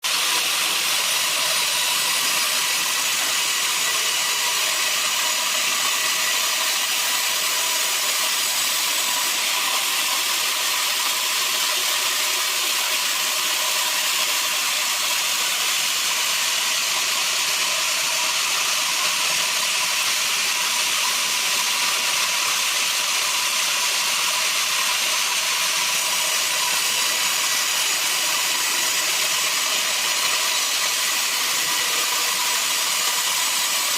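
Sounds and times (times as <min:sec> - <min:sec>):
band sawmill hissing: 0:00.0 - 0:33.9.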